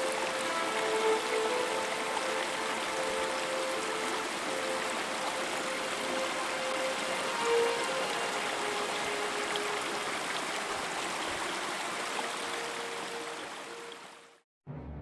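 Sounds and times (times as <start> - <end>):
mountain stream running: 0.0 - 14.4.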